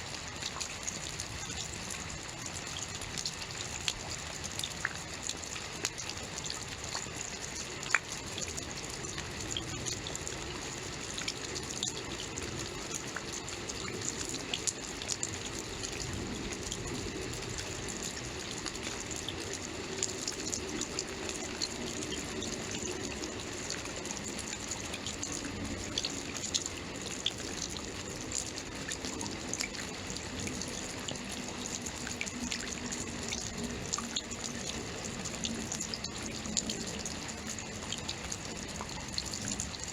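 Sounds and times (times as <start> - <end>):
steady rainfall: 0.0 - 39.9
sharp drip ticks: 0.1 - 39.9.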